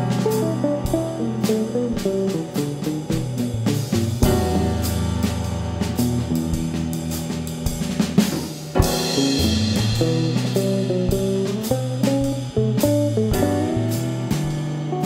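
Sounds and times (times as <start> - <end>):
drum kit playing: 0.0 - 15.0
low bass notes: 0.0 - 15.0.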